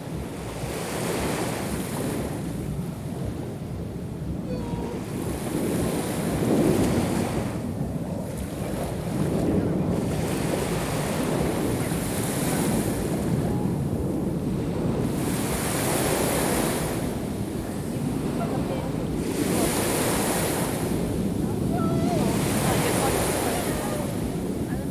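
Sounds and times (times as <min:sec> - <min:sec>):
surf washing onto shore: 0:00.0 - 0:24.9
wind rumbling on microphone: 0:00.0 - 0:24.9.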